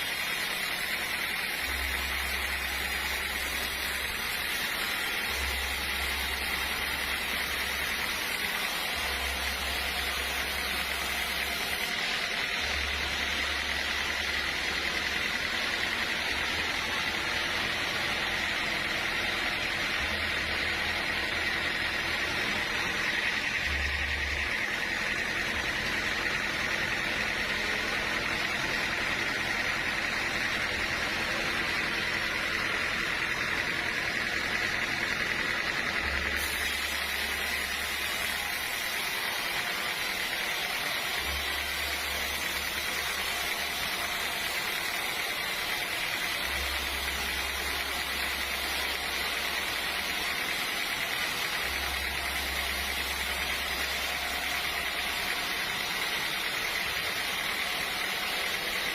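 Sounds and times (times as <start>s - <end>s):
sawmill machinery hiss and whine: 0.0s - 58.9s.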